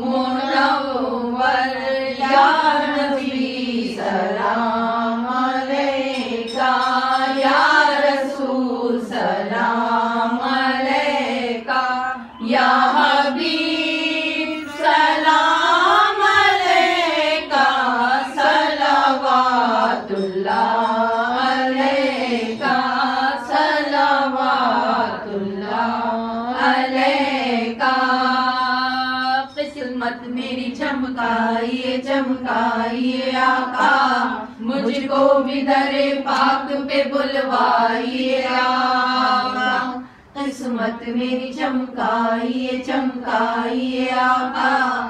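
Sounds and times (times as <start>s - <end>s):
women singing devotional chant: 0.0s - 45.0s.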